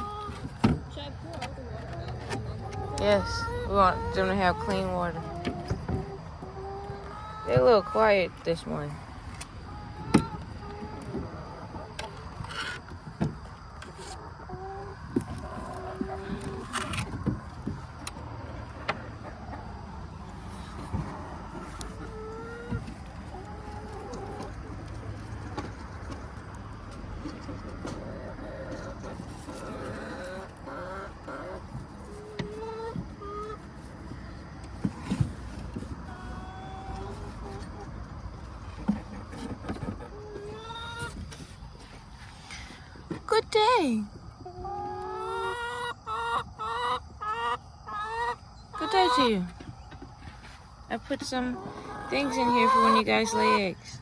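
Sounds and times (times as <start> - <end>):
chickens clucking softly: 0.0 - 43.3, 43.9 - 54.0
distant traffic rumble: 0.0 - 54.0.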